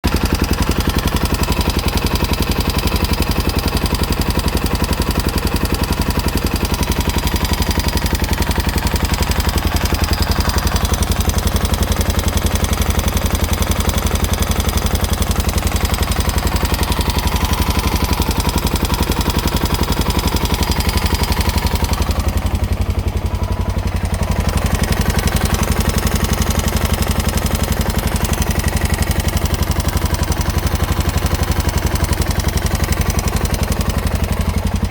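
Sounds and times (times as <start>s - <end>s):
engine clicking: 0.0s - 34.9s
motorcycle engine idling: 0.0s - 34.9s.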